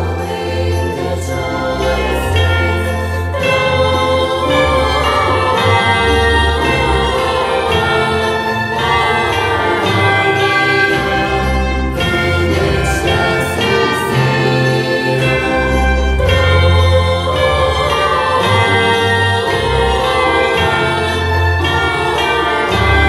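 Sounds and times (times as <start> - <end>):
bells: 0.0 - 23.0
choir singing a carol: 0.0 - 23.0.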